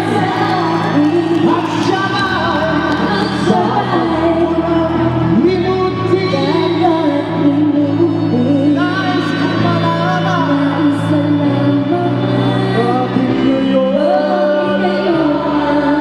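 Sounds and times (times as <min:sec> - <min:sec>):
woman singing into a microphone: 0:00.0 - 0:16.0.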